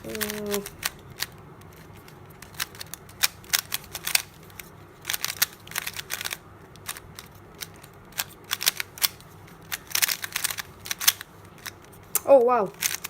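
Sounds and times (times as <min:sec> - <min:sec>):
puzzle cube plastic clicks: 0:00.0 - 0:13.0.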